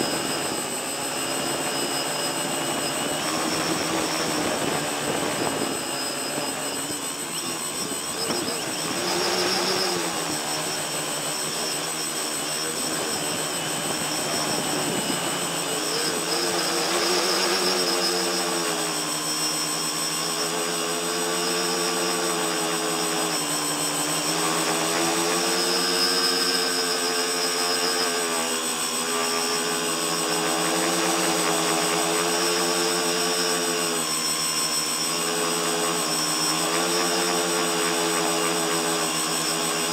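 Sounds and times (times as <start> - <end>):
drone motors and propellers whining: 0.0 - 39.9
thin high whine: 0.0 - 39.9.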